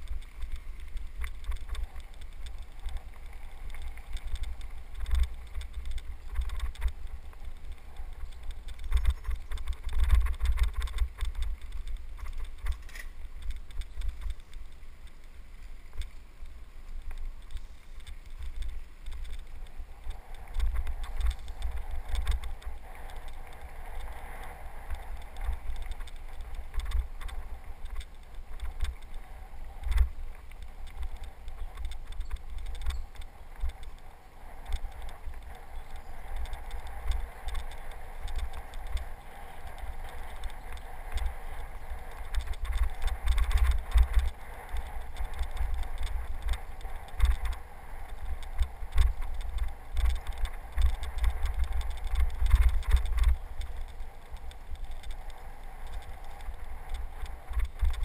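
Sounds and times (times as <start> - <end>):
wind buffeting microphone: 0.0 - 15.1, 16.9 - 58.0.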